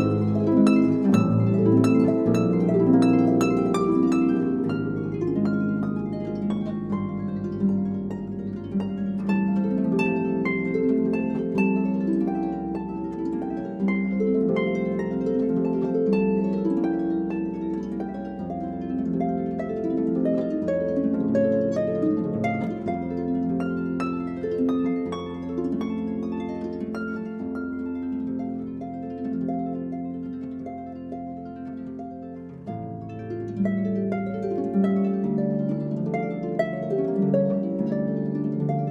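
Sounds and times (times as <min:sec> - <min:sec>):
plucked harp-like music: 0:00.0 - 0:38.9.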